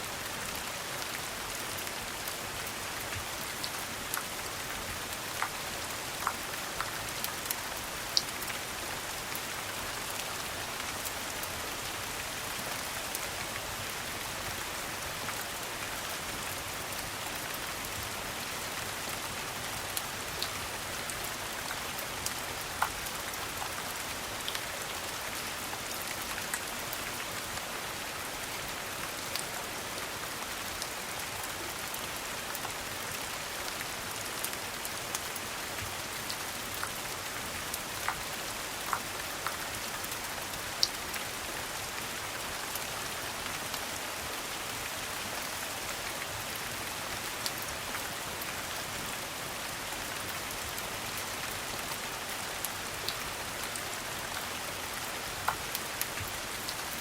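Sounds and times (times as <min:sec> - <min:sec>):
rain pattering: 0:00.1 - 0:57.0.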